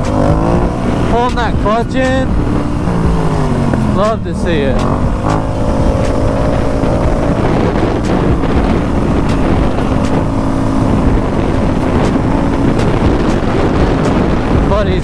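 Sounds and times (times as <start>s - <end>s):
dirt bike engine running: 0.0s - 15.0s
wind buffeting microphone: 0.0s - 15.0s.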